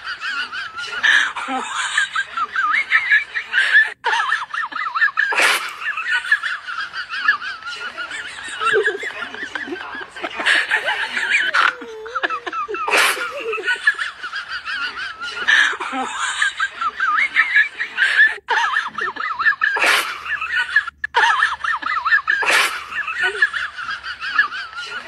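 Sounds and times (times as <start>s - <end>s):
high-pitched wavering laughter: 0.0s - 25.0s.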